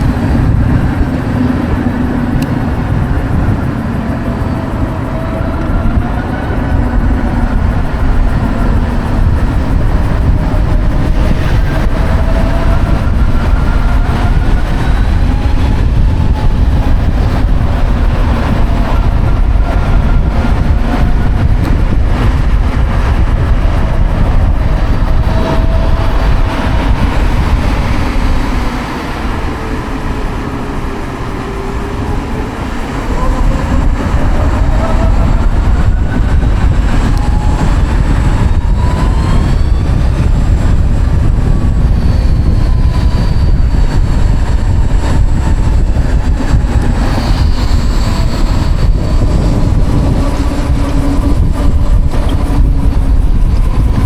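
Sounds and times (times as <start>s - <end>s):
electric motor whining: 0.0s - 54.0s
wind buffeting microphone: 0.0s - 54.0s.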